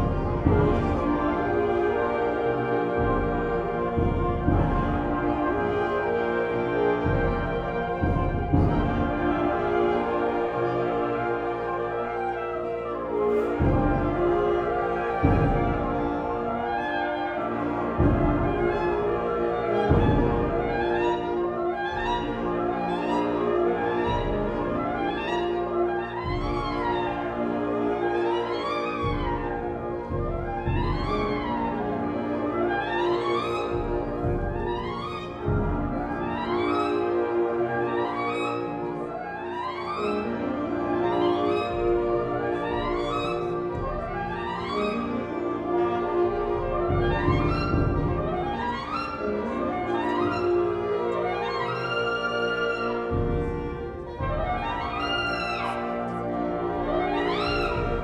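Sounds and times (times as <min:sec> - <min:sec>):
saxophone and wind ensemble: 0:00.0 - 0:58.0.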